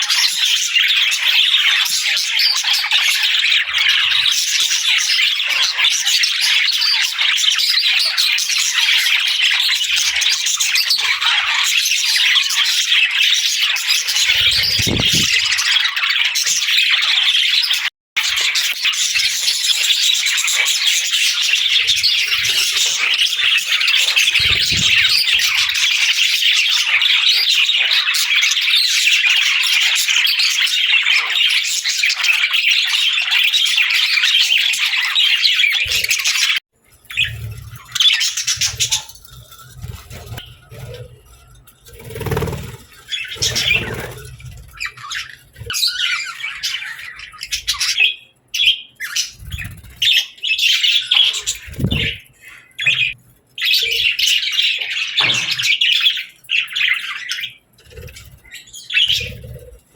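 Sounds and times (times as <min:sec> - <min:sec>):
budgerigars chattering and squawking: 0:00.0 - 0:59.8.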